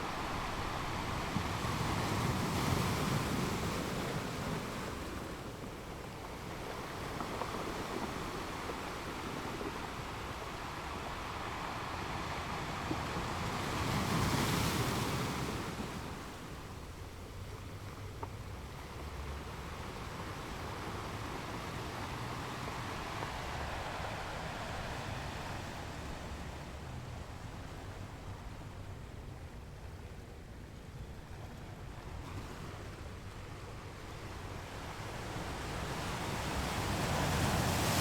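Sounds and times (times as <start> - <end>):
ocean waves on a beach: 0.0 - 38.0.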